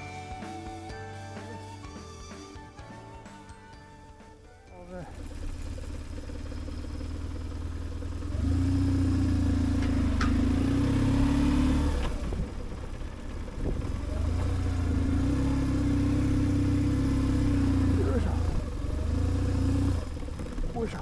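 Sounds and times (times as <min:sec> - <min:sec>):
motorcycle engine running: 0:02.6 - 0:21.0.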